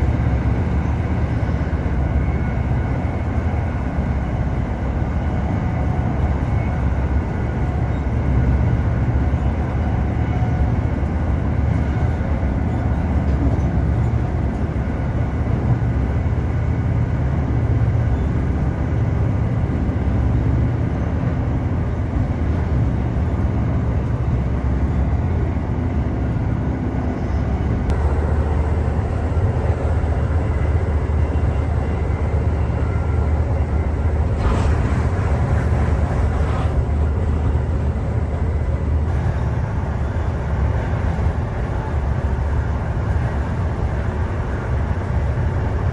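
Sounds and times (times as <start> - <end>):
train running rumble: 0.0 - 45.9.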